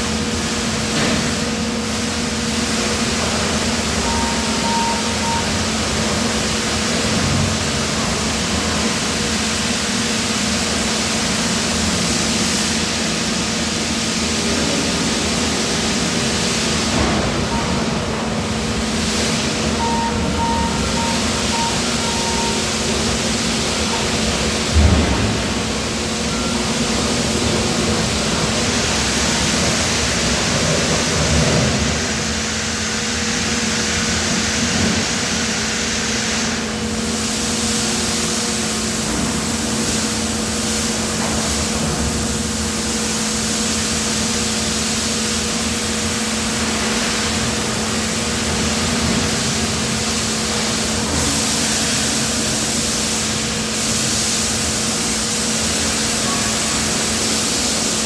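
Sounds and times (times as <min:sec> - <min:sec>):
factory machinery humming: 0:00.0 - 0:58.0.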